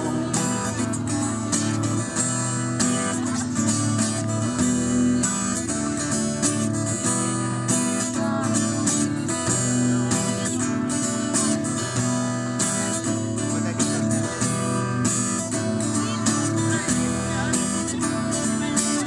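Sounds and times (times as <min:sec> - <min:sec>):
strummed acoustic guitar rock music: 0:00.0 - 0:19.0.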